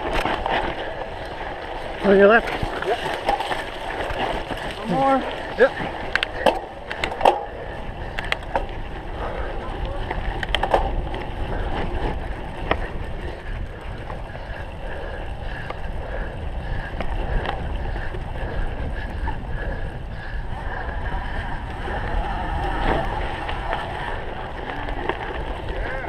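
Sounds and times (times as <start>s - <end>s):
bike clicks and rattles: 0.0s - 26.0s
bike riding over rough ground: 0.0s - 26.0s
wind noise on microphone: 0.0s - 26.0s.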